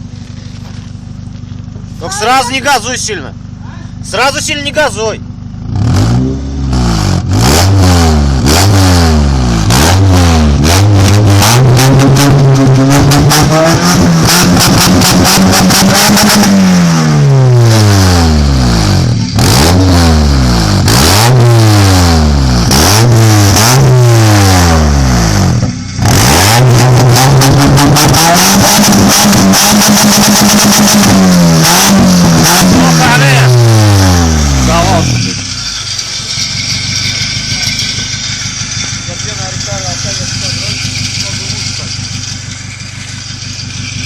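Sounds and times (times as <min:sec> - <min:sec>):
engine revving: 0:04.0 - 0:44.0.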